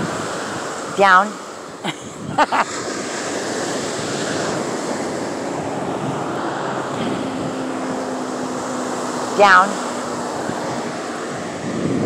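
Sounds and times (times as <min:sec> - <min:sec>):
ocean surf on beach: 0:00.0 - 0:12.0
wind on microphone: 0:00.0 - 0:12.0.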